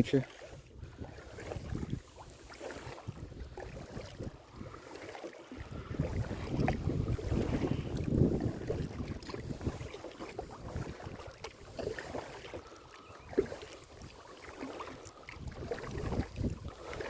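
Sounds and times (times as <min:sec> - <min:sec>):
light water splashes: 0:00.0 - 0:17.0
wind buffeting microphone: 0:00.5 - 0:17.0.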